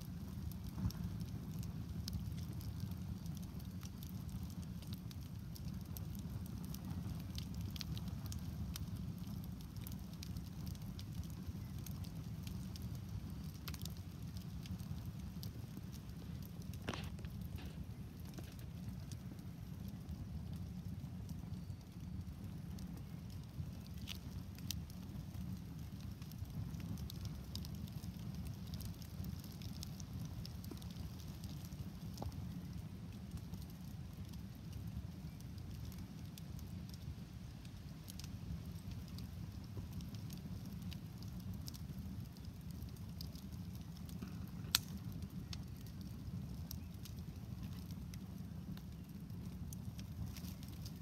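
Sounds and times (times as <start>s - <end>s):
campfire crackling and popping: 0.0s - 51.0s
fire low rumble: 0.0s - 51.0s.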